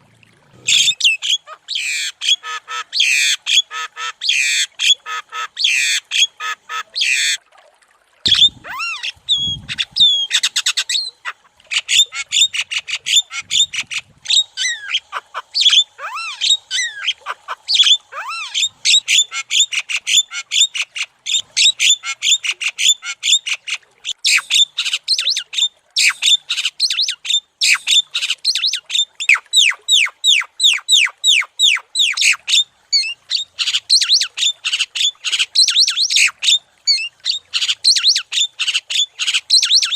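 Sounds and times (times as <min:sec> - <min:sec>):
bird chattering and squawking: 0:00.6 - 0:07.4, 0:08.3 - 0:39.9.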